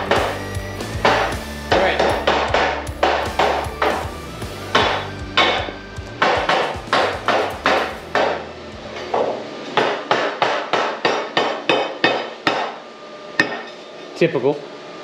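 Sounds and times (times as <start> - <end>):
sledgehammer striking steel plate: 0.0 - 12.8.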